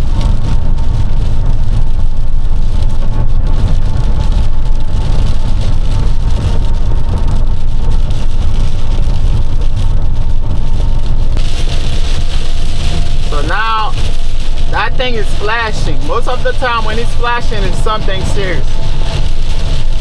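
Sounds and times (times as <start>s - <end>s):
truck engine and tyres rumbling: 0.0s - 20.0s.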